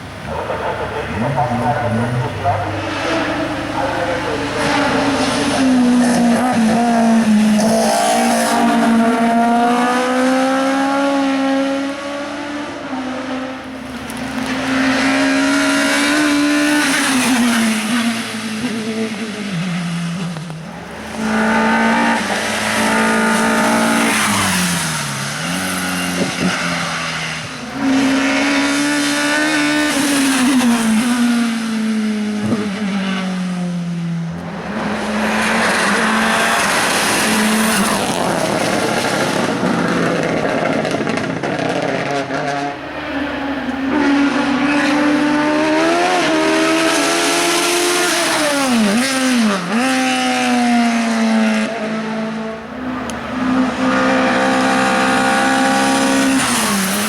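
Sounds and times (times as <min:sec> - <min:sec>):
race car engine revving: 0:00.2 - 0:57.0.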